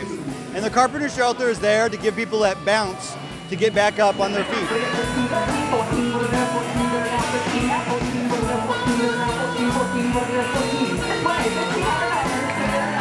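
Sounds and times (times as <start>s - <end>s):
rock music with guitar and drums: 0.0s - 13.0s.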